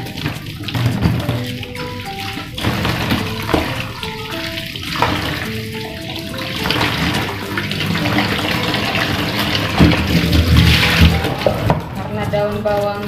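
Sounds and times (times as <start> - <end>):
light background music: 0.0 - 13.0
tap water splashing: 0.0 - 13.0.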